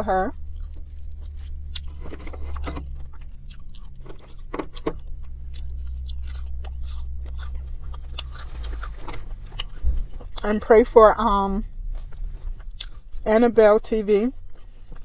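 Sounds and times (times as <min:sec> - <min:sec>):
chewing and crunching food: 0:00.0 - 0:10.6, 0:11.6 - 0:15.0
low car cabin hum: 0:00.0 - 0:15.0.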